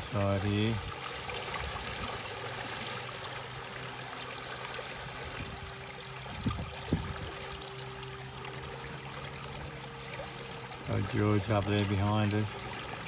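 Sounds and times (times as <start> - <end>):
low steady hum: 0.0 - 13.0
water rushing along hull: 0.0 - 13.0.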